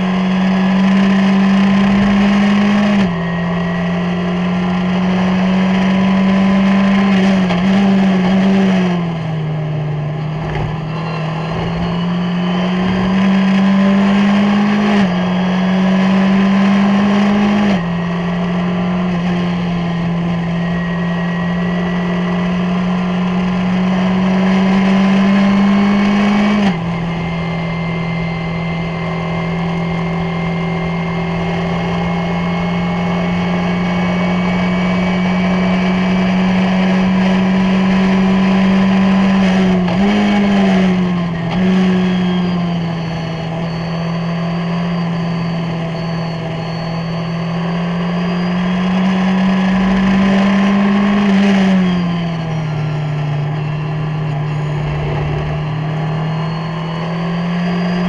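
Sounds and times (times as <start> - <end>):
race car engine at full throttle: 0.0 - 58.0.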